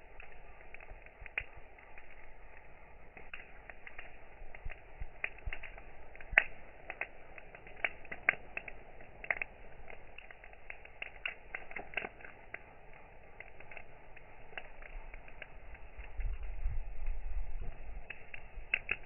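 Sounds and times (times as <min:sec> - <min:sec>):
campfire crackling and popping: 0:00.0 - 0:19.0
low fire hiss: 0:00.0 - 0:19.0.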